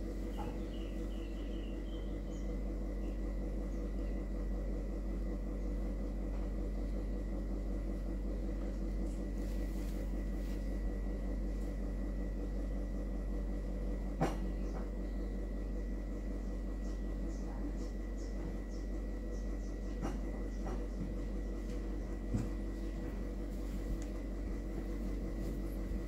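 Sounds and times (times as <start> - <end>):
background hum: 0.0 - 26.0
high constant whine: 0.0 - 26.0.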